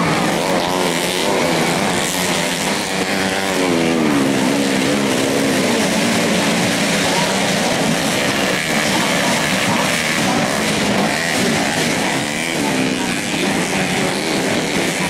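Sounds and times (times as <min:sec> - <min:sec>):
motorcycle engines racing: 0:00.0 - 0:15.0.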